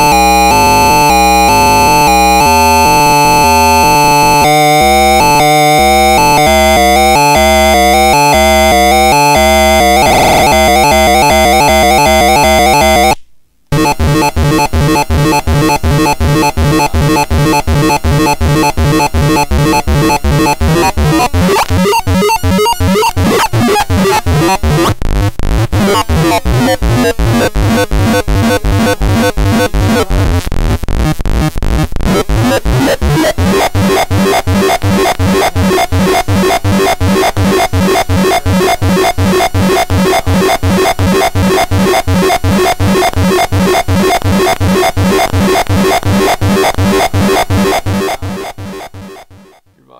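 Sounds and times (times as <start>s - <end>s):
harsh chiptune synthesizer pattern: 0.0s - 49.7s.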